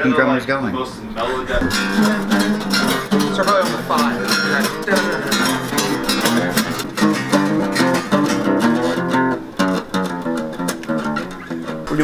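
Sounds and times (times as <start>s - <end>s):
guitar strumming and picking: 1.0s - 12.0s.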